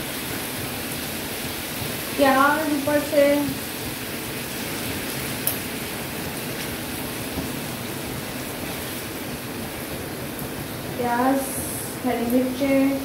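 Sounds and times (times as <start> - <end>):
food sizzling on a hot griddle: 0.0 - 13.0.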